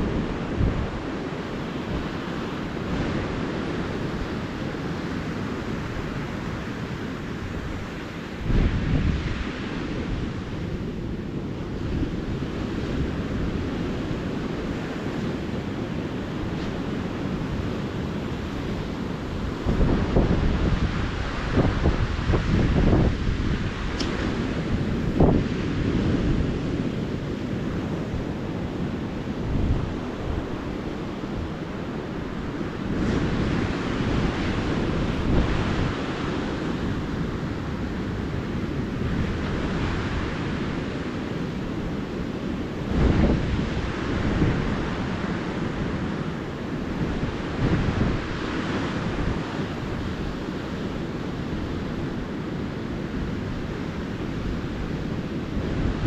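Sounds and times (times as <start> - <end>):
ocean surf washing on beach: 0.0 - 56.0
wind buffeting microphone: 0.0 - 56.0.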